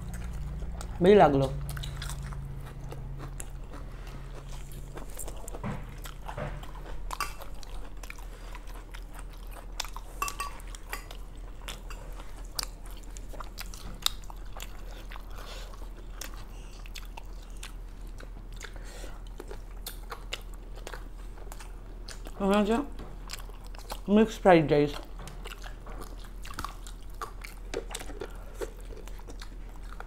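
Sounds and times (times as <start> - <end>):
people chewing and biting food: 0.0 - 30.0.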